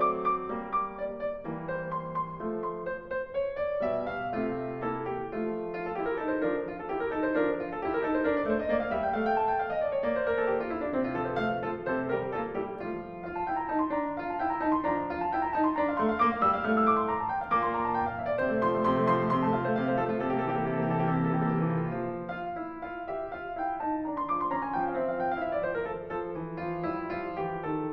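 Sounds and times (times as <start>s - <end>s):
classical piano music: 0.0s - 27.9s.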